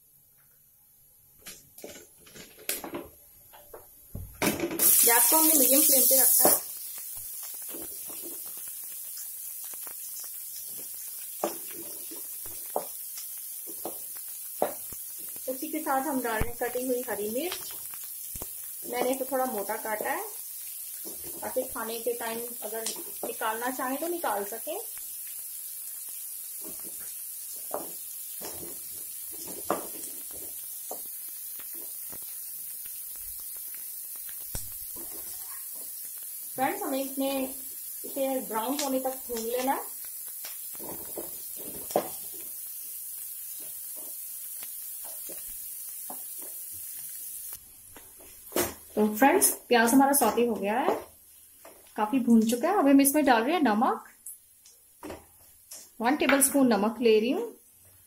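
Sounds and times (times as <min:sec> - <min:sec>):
onions sizzling in oil: 0:04.1 - 0:58.0.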